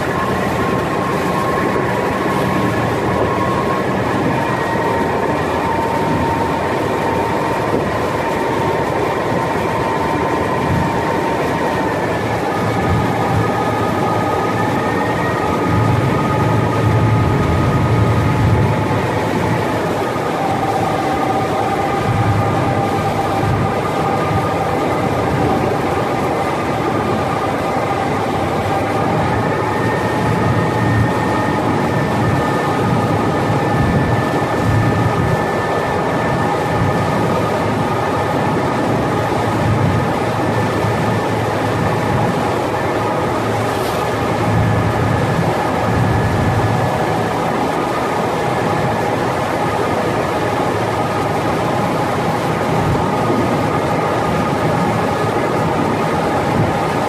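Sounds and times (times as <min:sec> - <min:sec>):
boat engines rumbling: 0:00.0 - 0:57.0
rushing water: 0:00.0 - 0:57.0
whining tones: 0:00.0 - 0:57.0.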